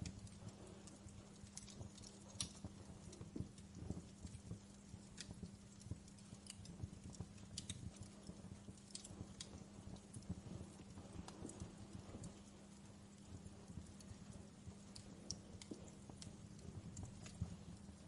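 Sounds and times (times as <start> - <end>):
faint steady hum: 0.0 - 18.0
wood fire crackling and popping: 0.0 - 18.0.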